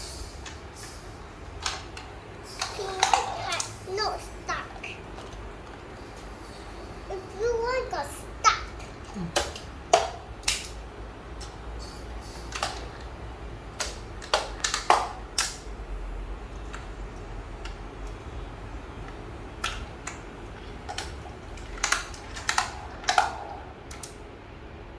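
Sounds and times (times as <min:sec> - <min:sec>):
toy cars clicking and knocking: 0:00.0 - 0:24.2
steady low hum: 0:00.0 - 0:24.9.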